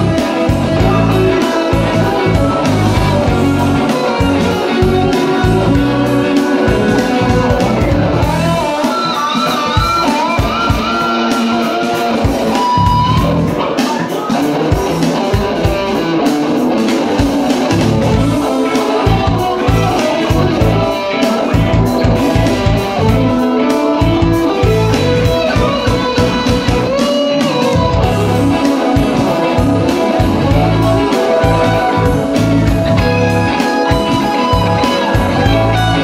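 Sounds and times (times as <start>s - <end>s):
funky electric guitar lead: 0.0s - 36.0s
rhythmic backing groove: 0.0s - 36.0s.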